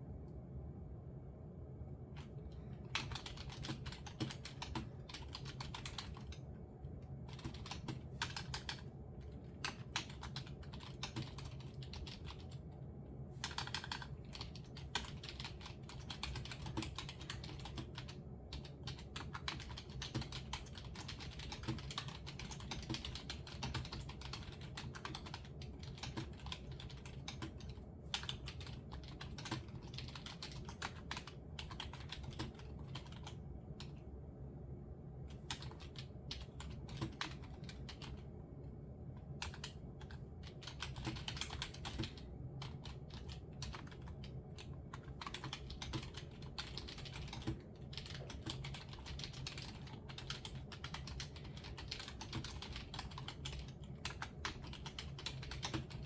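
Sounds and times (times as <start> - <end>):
faint low hum: 0.0 - 56.0
typing on computer keyboard: 2.2 - 12.7, 13.4 - 34.0, 35.3 - 38.3, 39.2 - 56.0.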